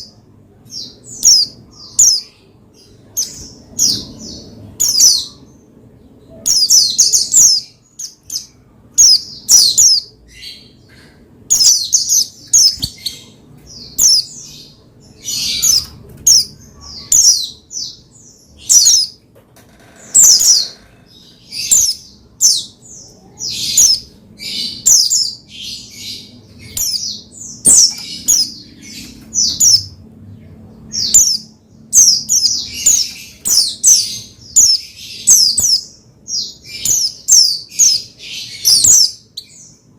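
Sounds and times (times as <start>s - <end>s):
bird twittering high chirps: 0.0s - 39.9s.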